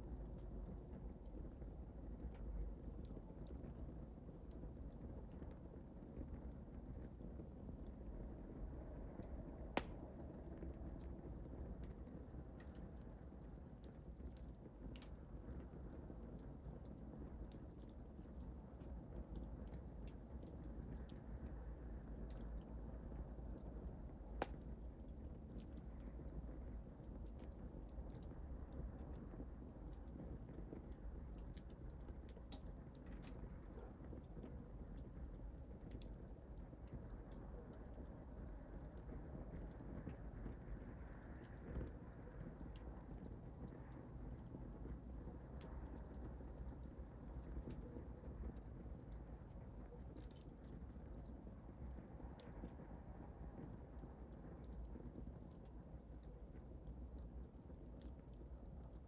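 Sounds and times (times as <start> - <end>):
flame rumble: 0.0 - 59.0
wood fire crackling: 0.0 - 59.0.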